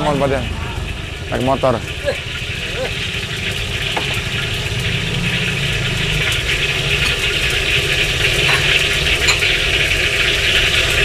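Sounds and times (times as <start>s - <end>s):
deep-frying hiss: 0.0s - 11.0s
motorbike engines rumbling: 0.0s - 11.0s.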